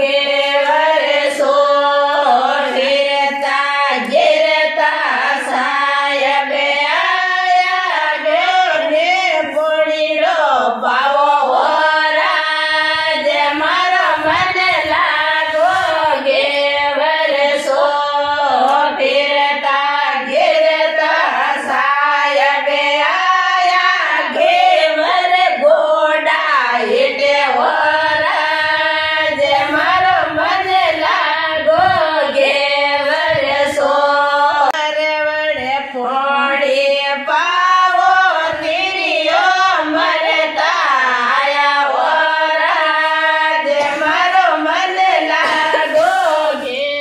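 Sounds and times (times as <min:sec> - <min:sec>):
women singing folk song: 0:00.0 - 0:47.0.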